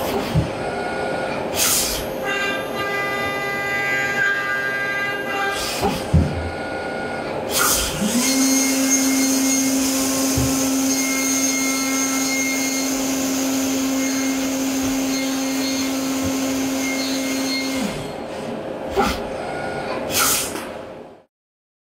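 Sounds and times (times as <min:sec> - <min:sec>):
machine spindle humming: 0:02.2 - 0:20.1.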